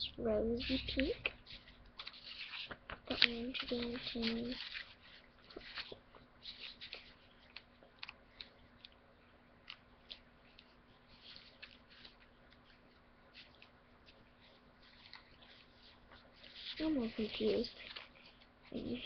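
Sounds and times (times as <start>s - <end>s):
paper sheets rustling: 0.4s - 8.9s, 9.6s - 19.0s.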